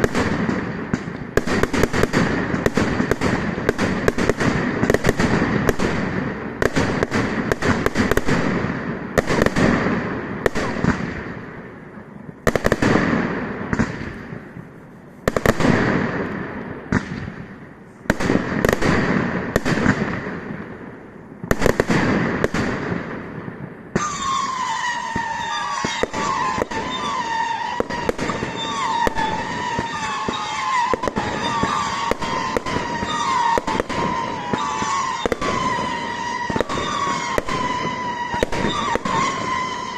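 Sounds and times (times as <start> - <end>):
fireworks banging: 0.0 - 39.9
fireworks crackling: 0.0 - 39.9
whistling fireworks: 0.0 - 39.9.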